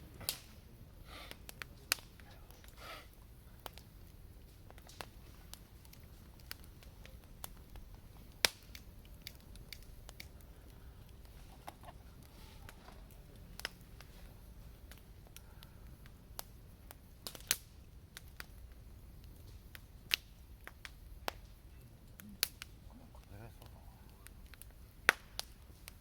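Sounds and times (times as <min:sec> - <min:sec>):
sharp pops and snaps of fire: 0:00.0 - 0:26.0
wood fire crackling: 0:00.0 - 0:26.0.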